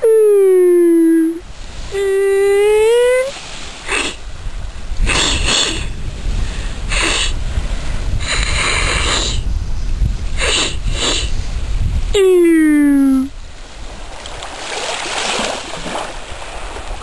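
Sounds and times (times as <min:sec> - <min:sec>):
wind buffeting microphone: 0:01.4 - 0:17.0.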